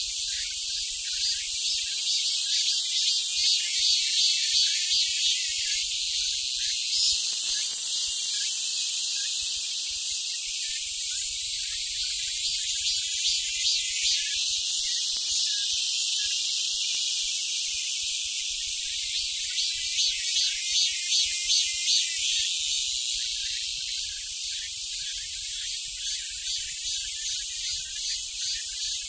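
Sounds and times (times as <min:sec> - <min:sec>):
cicadas chorus: 0:00.0 - 0:29.0.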